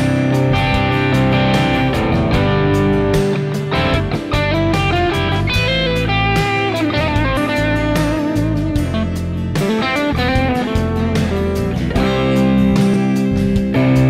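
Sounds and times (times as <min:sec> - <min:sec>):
overdriven electric guitar: 0:00.0 - 0:14.0.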